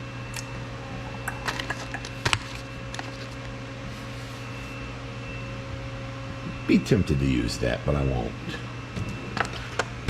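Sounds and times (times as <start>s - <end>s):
steady machine hum: 0.0s - 10.0s.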